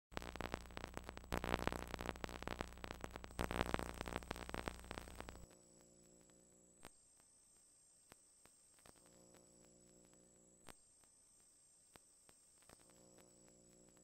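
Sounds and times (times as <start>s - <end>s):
crackling glitchy static: 0.0s - 14.0s.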